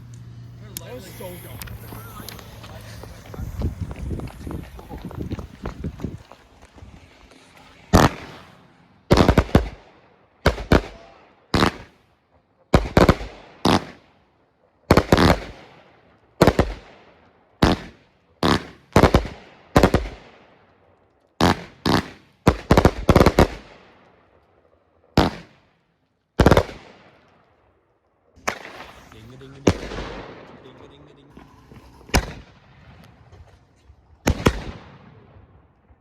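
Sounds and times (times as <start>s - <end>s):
fireworks bangs: 0.0s - 14.3s, 14.9s - 20.7s, 21.4s - 25.8s, 26.4s - 27.6s, 28.4s - 36.0s.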